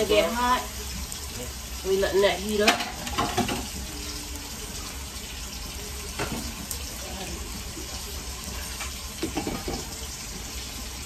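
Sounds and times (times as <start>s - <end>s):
water heating hiss: 0.0s - 11.0s.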